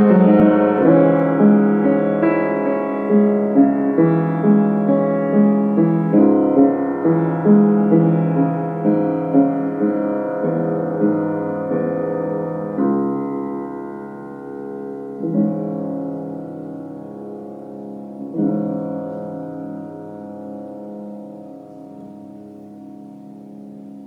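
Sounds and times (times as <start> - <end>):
piano playing slowly: 0.0 - 24.0.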